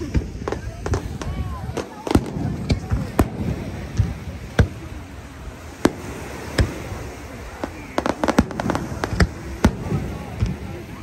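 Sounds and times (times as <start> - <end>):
fainter fireworks pops: 0.0 - 5.0, 5.8 - 11.0
fireworks bangs: 0.0 - 11.0.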